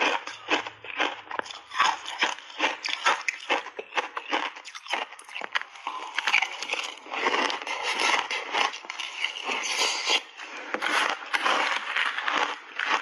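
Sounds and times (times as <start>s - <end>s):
crunching shaved ice: 0.0s - 10.4s, 11.0s - 13.0s.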